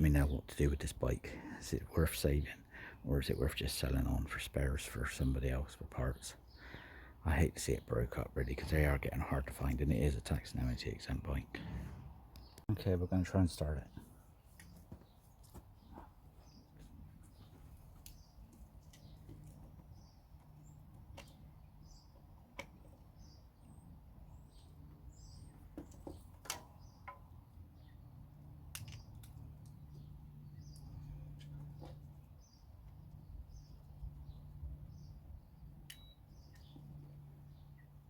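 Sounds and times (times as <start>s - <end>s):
birds chirping faintly: 0.0s - 38.0s.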